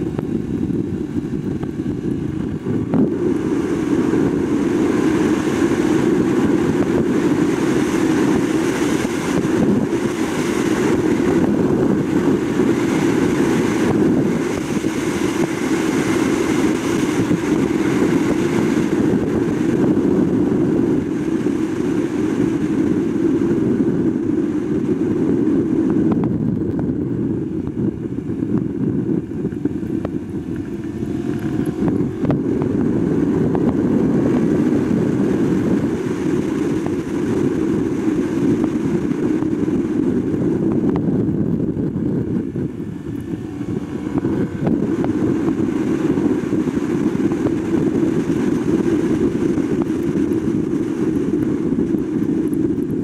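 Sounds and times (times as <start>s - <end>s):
motorcycle engine running: 0.0s - 53.0s
wind rushing over camera: 0.0s - 53.0s.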